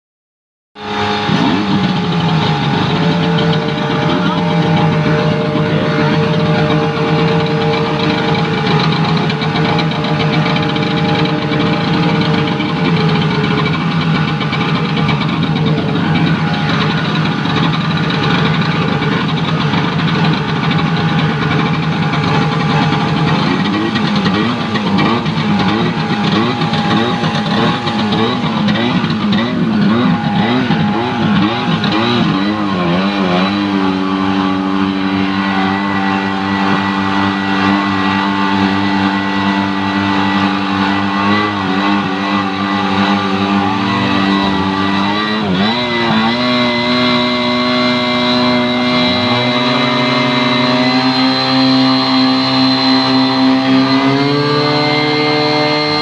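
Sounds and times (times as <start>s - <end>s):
fire pump engine running: 0.8s - 56.0s.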